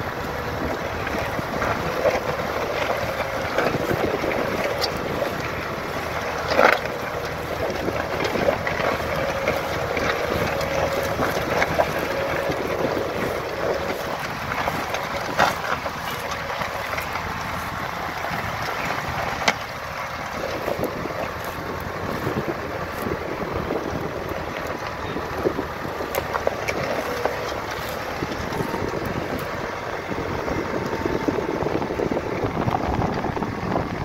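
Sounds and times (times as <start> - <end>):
tractor engine running under load: 0.0 - 34.0
wind on microphone: 0.0 - 34.0.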